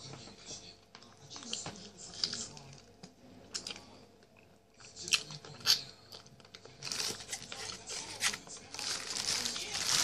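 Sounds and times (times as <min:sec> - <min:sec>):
crackly crunching and crinkling: 0:00.0 - 0:10.0
biting and chewing: 0:00.9 - 0:10.0.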